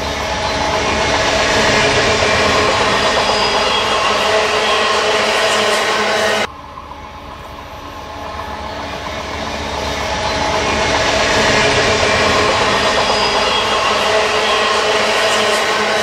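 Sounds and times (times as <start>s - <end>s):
train cars rumbling and clattering: 0.0s - 16.0s.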